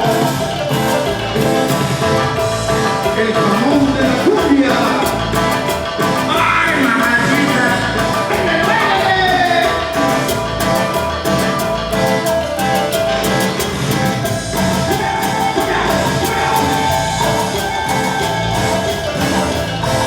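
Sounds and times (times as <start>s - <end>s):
band music: 0.0s - 20.0s
steady drum beat: 0.0s - 20.0s.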